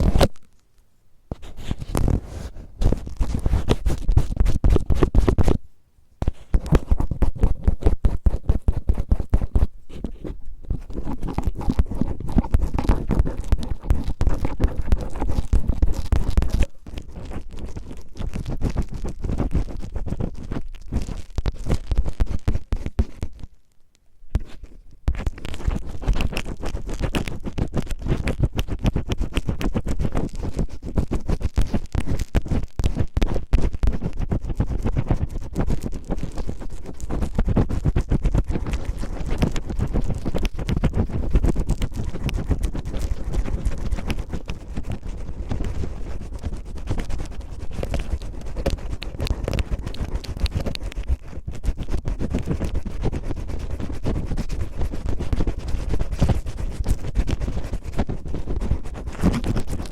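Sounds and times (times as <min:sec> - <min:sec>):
cellophane crinkling on microphone: 0:00.0 - 0:00.7, 0:01.3 - 0:05.6, 0:09.9 - 0:23.7, 0:24.4 - 0:59.9.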